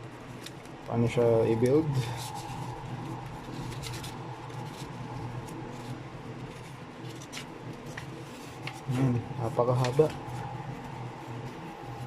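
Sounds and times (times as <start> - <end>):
low hum: 0.0 - 12.0
paper rustling: 0.0 - 12.0.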